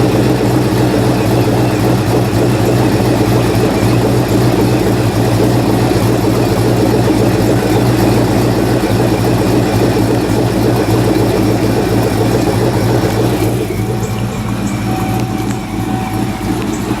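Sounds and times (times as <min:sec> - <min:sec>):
car engine idling: 0:00.0 - 0:17.0
faint steady whine: 0:00.0 - 0:17.0.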